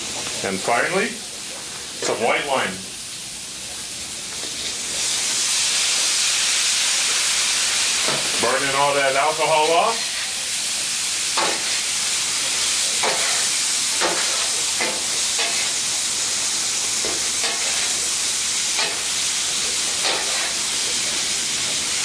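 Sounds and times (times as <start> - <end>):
shrimp sizzling on a griddle: 0.0 - 22.0.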